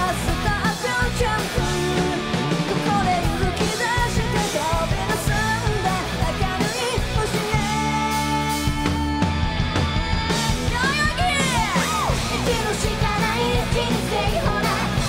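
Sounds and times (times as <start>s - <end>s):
bass: 0.0s - 15.0s
distorted electric guitars: 0.0s - 15.0s
drums with cymbals: 0.0s - 15.0s
woman singing lead vocal: 0.0s - 15.0s.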